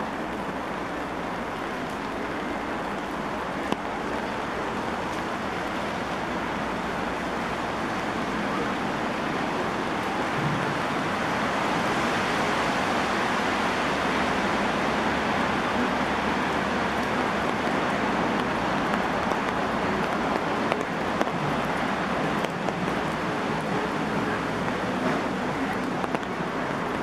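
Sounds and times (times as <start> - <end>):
heavy rain on wet paving: 0.0 - 27.0.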